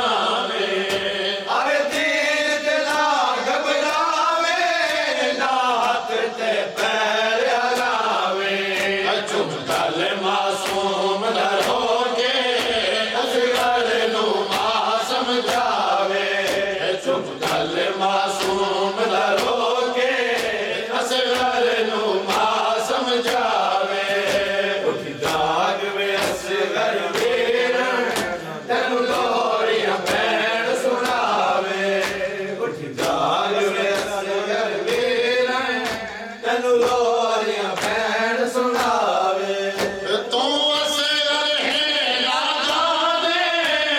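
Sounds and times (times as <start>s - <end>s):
lead reciter at microphone: 0.0s - 43.9s
men chanting in unison: 0.0s - 43.9s
rhythmic chest-beating slaps: 0.0s - 43.9s.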